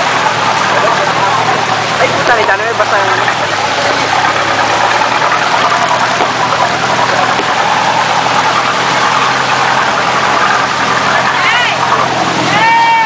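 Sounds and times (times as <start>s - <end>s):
boat engine running: 0.0s - 13.0s
water rushing along hull: 0.0s - 13.0s.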